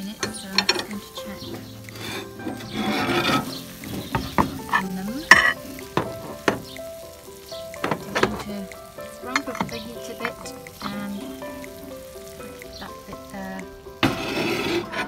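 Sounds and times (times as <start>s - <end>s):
chicken sizzling in a pan: 0.0s - 15.0s
fat spitting pops and crackles: 0.7s - 15.0s.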